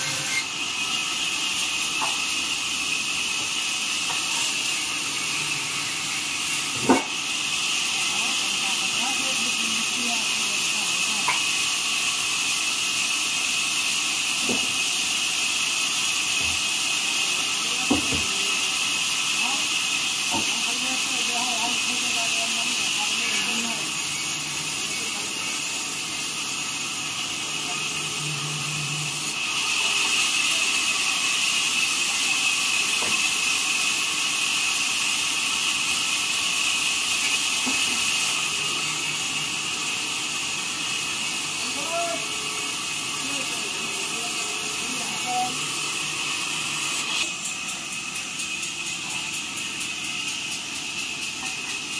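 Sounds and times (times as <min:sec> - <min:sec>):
sawmill machinery hissing: 0:00.0 - 0:51.9.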